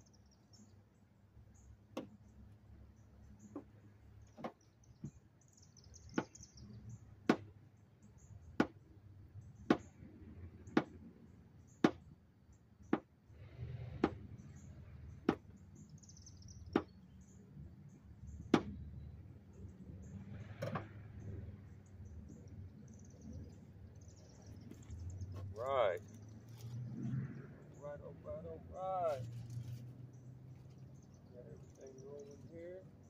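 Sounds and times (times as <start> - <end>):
faint birds chirping: 0.0 - 33.0.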